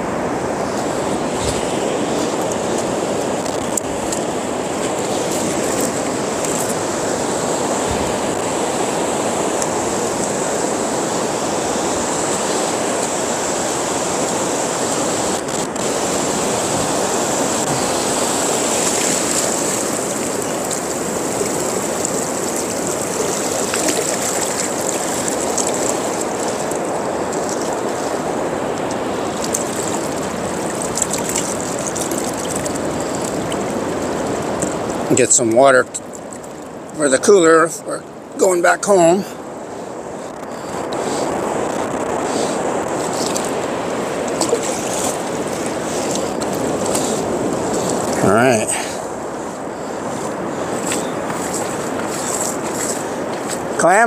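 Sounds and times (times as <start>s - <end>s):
surf water rushing: 0.0s - 54.0s
water splashes: 0.0s - 54.0s.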